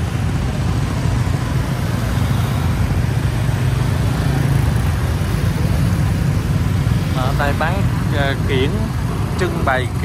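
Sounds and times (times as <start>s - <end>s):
road noise: 0.0s - 10.0s
scooter and motorbike engines: 0.0s - 10.0s.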